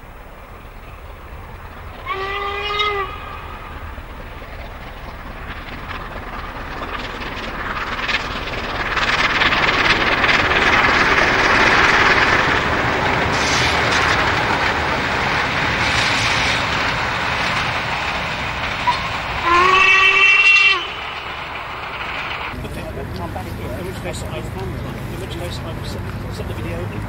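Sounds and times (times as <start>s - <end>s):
steam locomotive passing: 0.0s - 27.0s.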